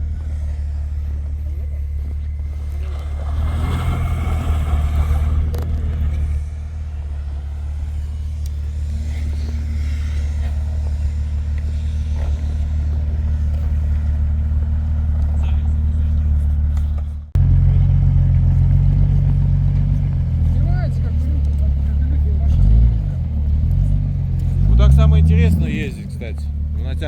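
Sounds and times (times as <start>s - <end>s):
off-road vehicle engine running: 0.0s - 27.0s.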